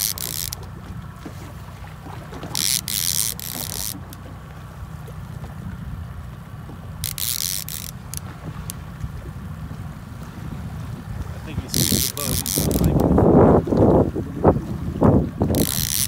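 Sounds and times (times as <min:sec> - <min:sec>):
outboard motor rumbling: 0:00.0 - 0:16.0
wind and water noise: 0:00.0 - 0:16.0.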